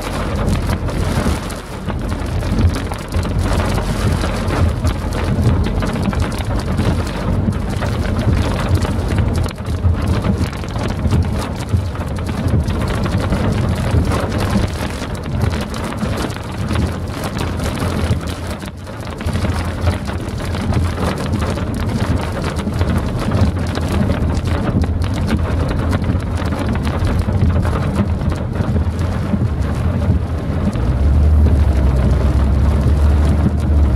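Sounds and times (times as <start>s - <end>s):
heavy rain on car roof: 0.0s - 33.9s
low rumble: 0.0s - 33.9s.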